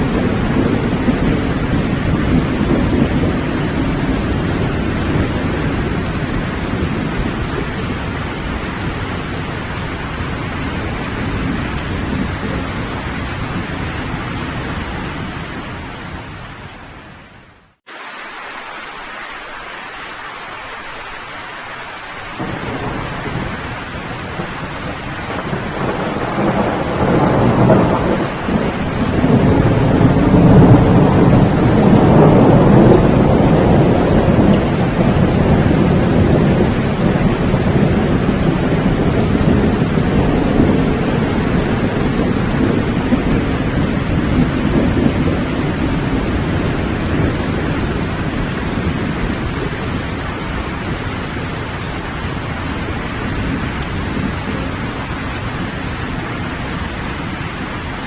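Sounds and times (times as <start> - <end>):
rolling thunder: 0.0 - 16.3, 22.3 - 57.8
heavy rain: 0.0 - 58.0.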